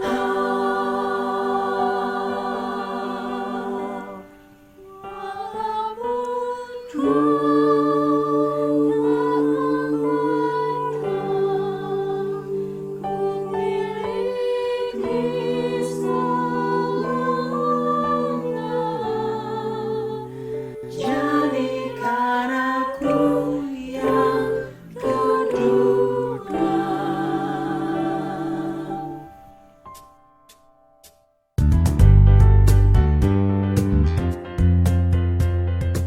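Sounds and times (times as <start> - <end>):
choir singing: 0.0 - 29.7.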